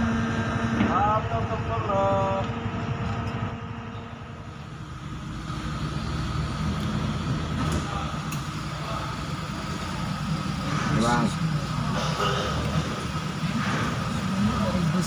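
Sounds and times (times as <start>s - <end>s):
engine low rumble: 0.0s - 15.0s.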